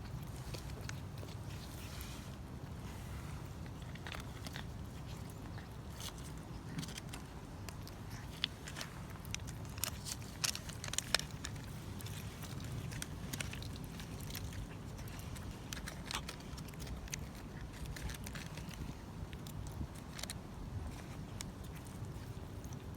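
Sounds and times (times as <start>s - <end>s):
cat chewing: 0.0s - 22.9s
steady low hum: 0.0s - 22.9s.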